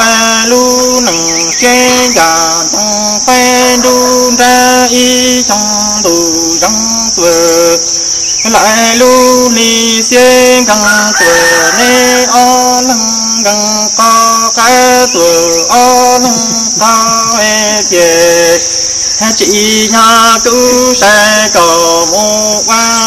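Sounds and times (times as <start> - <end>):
high insect drone: 0.0 - 23.0
person chanting in long notes: 0.0 - 23.0.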